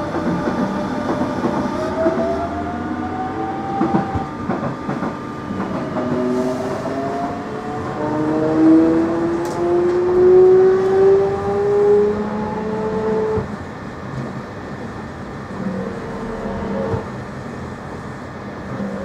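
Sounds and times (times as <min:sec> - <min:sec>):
train motors whining: 0:00.0 - 0:17.9.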